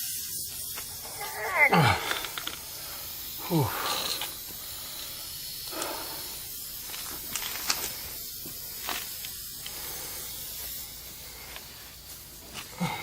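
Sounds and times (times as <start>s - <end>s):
air hissing from tire: 0.0s - 13.0s.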